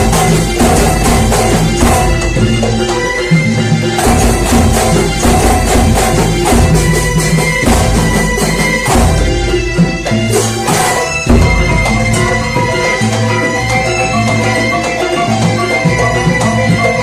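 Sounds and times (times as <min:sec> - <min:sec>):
frame drum ensemble: 0:00.0 - 0:17.0
steady melodic tones: 0:00.0 - 0:17.0.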